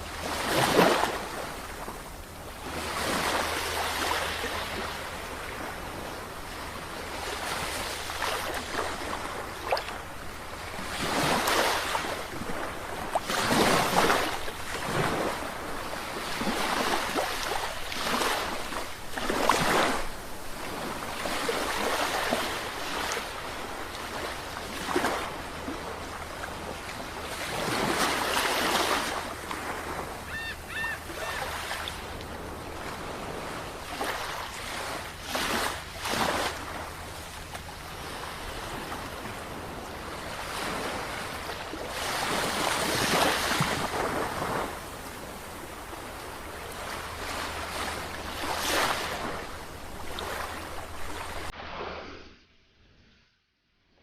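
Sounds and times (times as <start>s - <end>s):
sea waves breaking: 0.0s - 52.3s.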